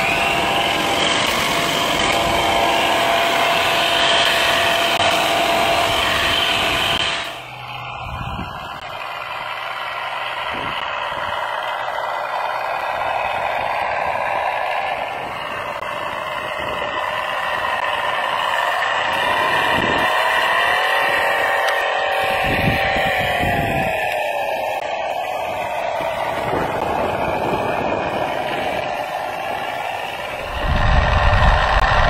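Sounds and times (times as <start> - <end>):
model car motor whirring: 0.0 - 32.0.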